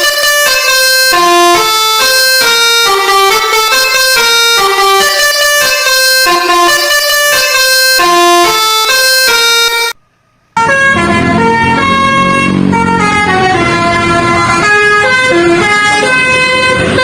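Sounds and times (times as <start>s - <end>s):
bus horn melody: 0.0s - 10.0s, 10.6s - 17.0s
bus engine rumble: 0.0s - 17.0s.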